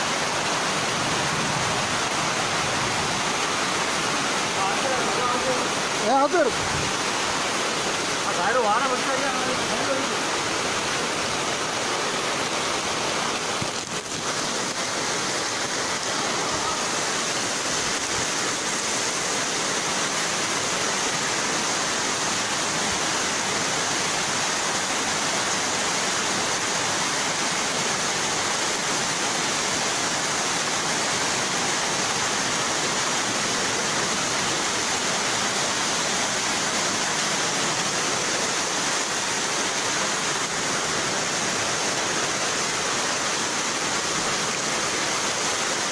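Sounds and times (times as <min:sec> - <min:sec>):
floodwater rushing: 0:00.0 - 0:45.9.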